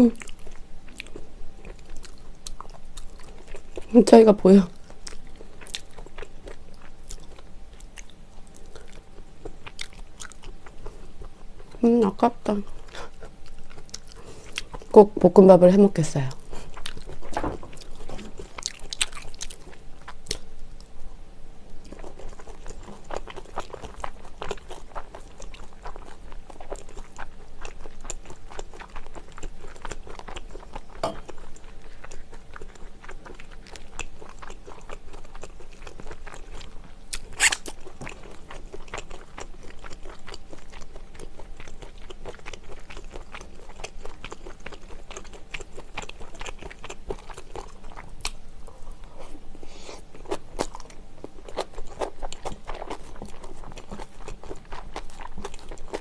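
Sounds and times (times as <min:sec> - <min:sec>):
chewing and mouth sounds: 0:00.0 - 0:15.0, 0:16.2 - 0:20.9, 0:21.7 - 0:56.0.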